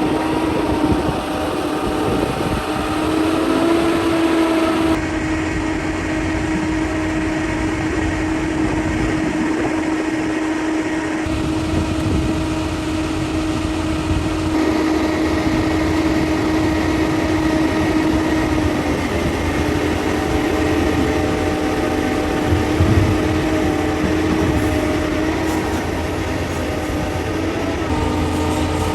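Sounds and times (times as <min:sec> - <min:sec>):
earthmoving machinery engine running: 0:00.0 - 0:28.9.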